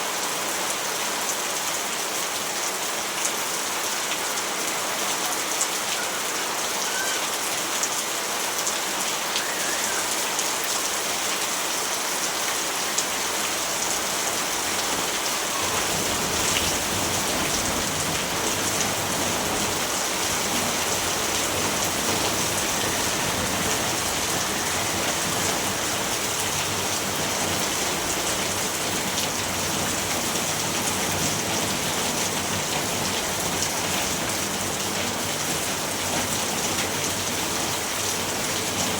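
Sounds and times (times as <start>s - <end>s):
rainfall hissing: 0.0s - 38.9s.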